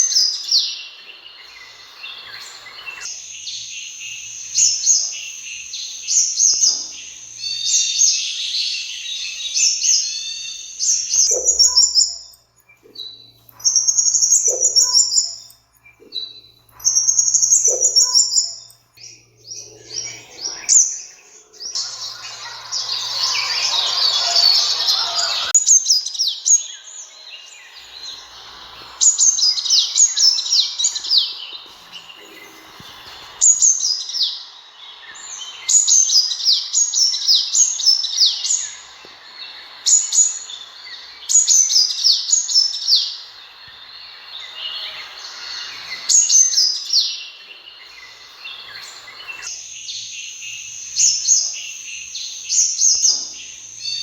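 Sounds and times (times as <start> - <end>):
sunbird chirping: 0.0 - 54.0.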